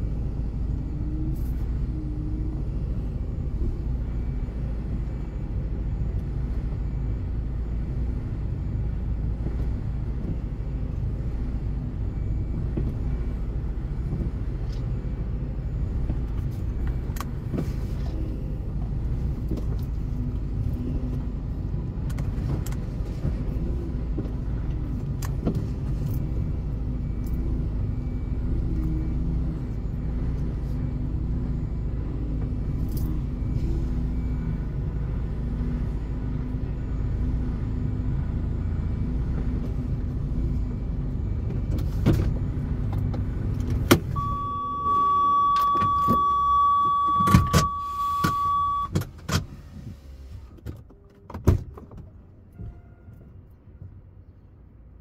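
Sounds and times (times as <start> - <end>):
car rumbling on the move: 0.0 - 55.0.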